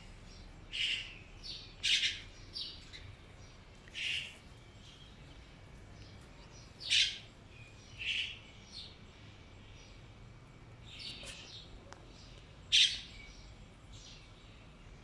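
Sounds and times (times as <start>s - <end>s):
bird chirping: 0.0s - 10.1s, 10.8s - 15.0s.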